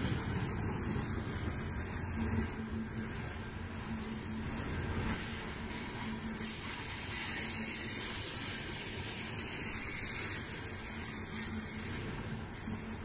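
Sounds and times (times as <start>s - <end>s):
steel wheels rushing on rails: 0.0s - 13.0s.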